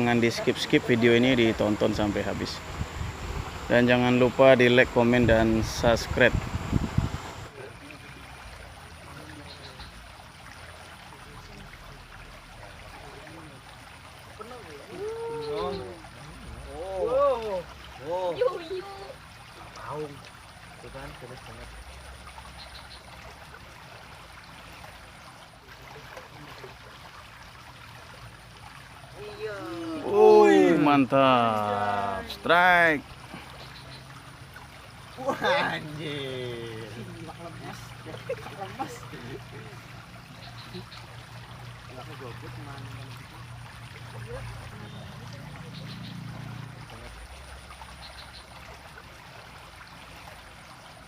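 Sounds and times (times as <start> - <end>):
water running in ditch: 0.0 - 51.0.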